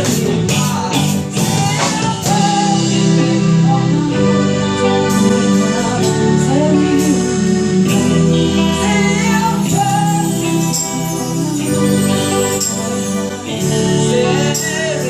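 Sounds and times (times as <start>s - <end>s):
man singing lead vocal: 0.0s - 15.0s
rock band playing: 0.0s - 15.0s.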